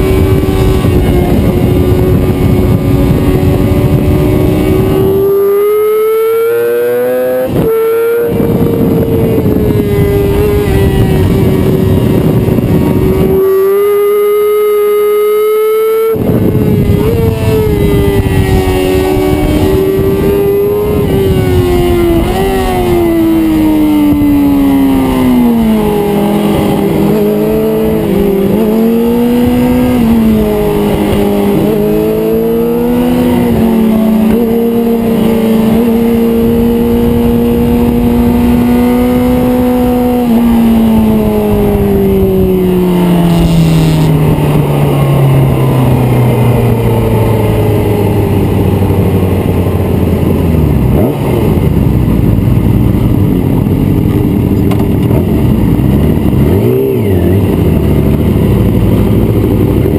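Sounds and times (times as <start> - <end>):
loud rushing wind noise: 0.0 - 59.9
motorcycle engine revving: 0.0 - 59.9.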